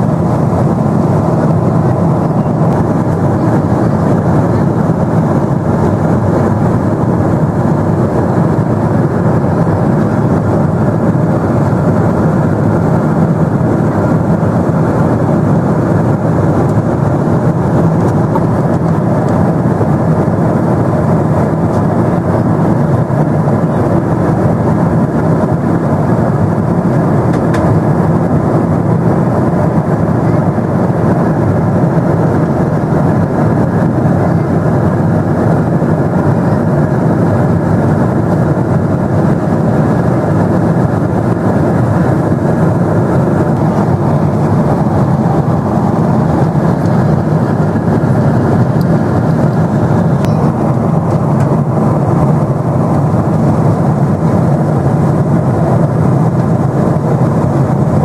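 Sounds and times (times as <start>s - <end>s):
jet engine roar in cabin: 0.0s - 58.0s.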